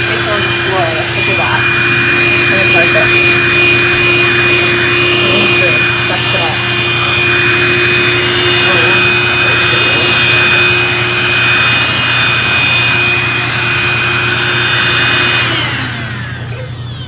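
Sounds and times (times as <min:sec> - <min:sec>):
handheld vacuum cleaner whining: 0:00.0 - 0:17.0.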